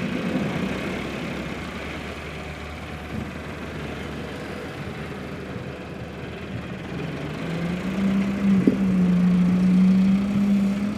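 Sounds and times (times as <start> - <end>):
tractor engine running: 0.0 - 10.9.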